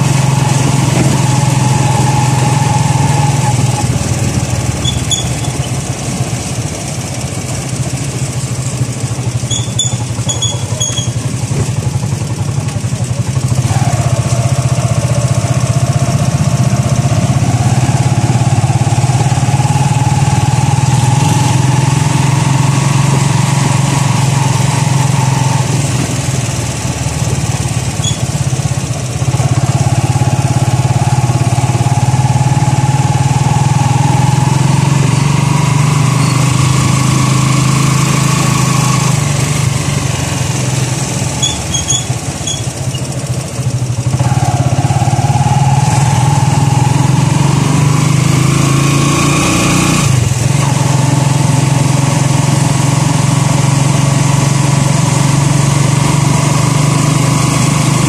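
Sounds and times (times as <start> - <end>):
motorcycle engine whining: 0.0 - 58.0.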